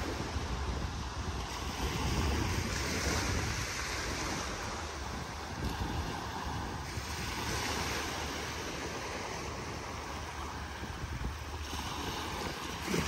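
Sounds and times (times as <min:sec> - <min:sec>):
waves washing onto shore: 0:00.0 - 0:13.0
wind rumbling on microphone: 0:00.0 - 0:13.0.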